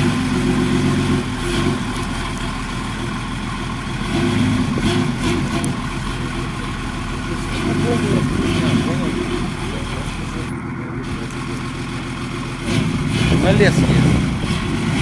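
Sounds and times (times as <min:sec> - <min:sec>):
truck engine at low revs: 0:00.0 - 0:15.0.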